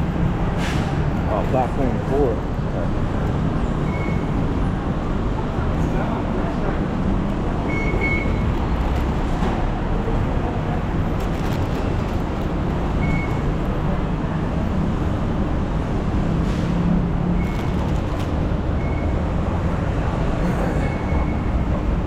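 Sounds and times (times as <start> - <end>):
busy station noise: 0.0 - 22.0
road traffic rumble: 0.0 - 22.0.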